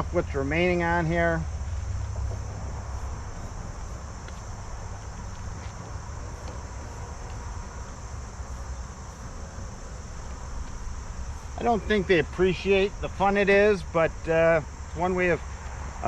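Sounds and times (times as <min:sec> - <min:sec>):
high insect trill: 0:00.0 - 0:16.0
honeybees buzzing: 0:00.0 - 0:16.0.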